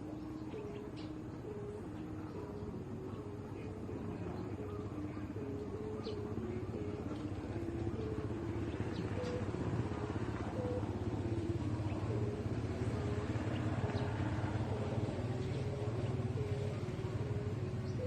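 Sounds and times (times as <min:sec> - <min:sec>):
kite hummer droning in wind: 0:00.0 - 0:18.0.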